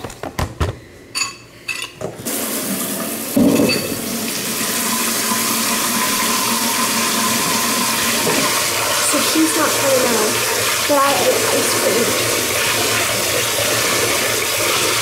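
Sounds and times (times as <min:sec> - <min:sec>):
tap water running into sink: 0:02.3 - 0:15.0.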